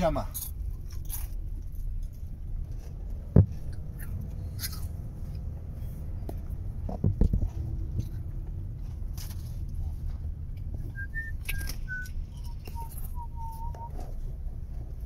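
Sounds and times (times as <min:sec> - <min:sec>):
car rolling rumble: 0:00.0 - 0:15.0.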